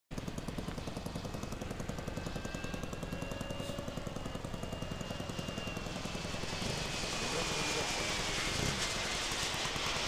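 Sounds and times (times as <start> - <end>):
model airplane engine idling: 0.1 - 10.0
thin steady whine: 1.9 - 10.0.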